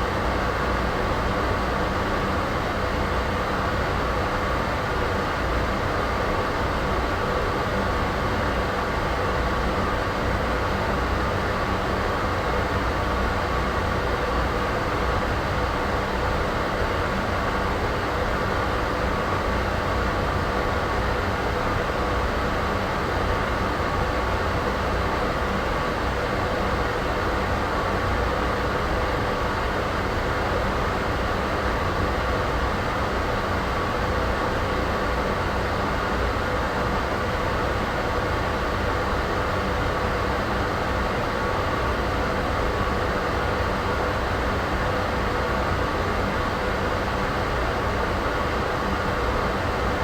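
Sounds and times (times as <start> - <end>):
faint constant hum: 0.0 - 50.0.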